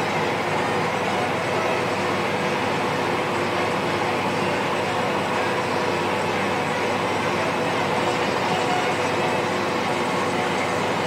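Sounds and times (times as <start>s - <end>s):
tractor diesel engine drone: 0.0s - 11.0s.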